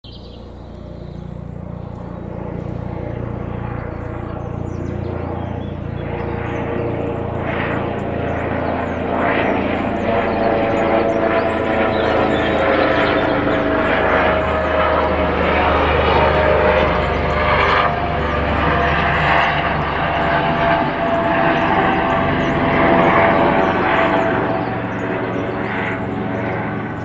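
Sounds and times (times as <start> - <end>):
helicopter turbine whine: 0.0 - 27.0
helicopter rotor drone: 0.1 - 27.0.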